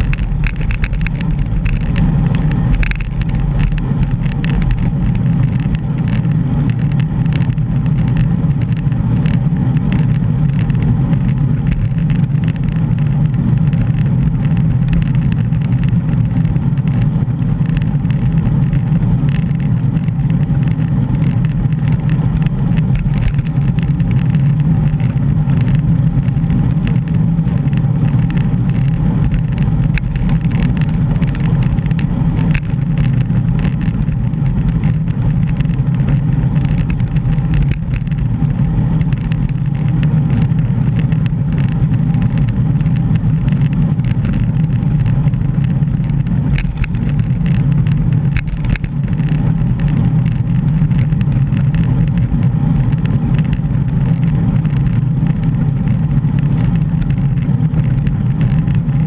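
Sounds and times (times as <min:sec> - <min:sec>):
road noise: 0:00.0 - 0:59.0
wind buffeting microphone: 0:00.0 - 0:59.0.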